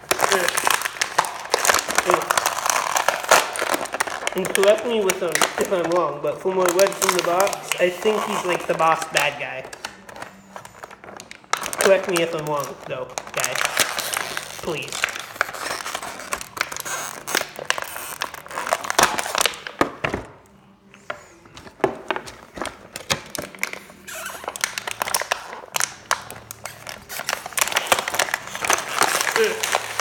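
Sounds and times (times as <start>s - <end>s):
plastic packaging crinkling: 0.0s - 20.3s, 21.3s - 30.0s.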